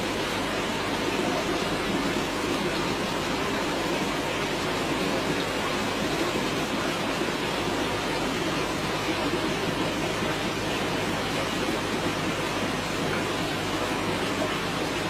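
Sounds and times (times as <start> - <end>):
aquarium air bubbling: 0.0 - 15.0.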